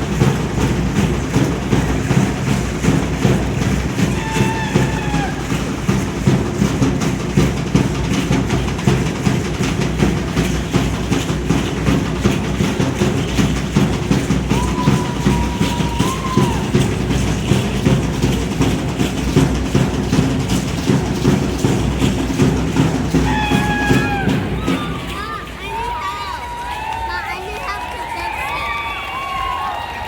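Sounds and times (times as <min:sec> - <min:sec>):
constant rattling: 0:00.0 - 0:26.7
drum beating steady rhythm: 0:00.0 - 0:30.0.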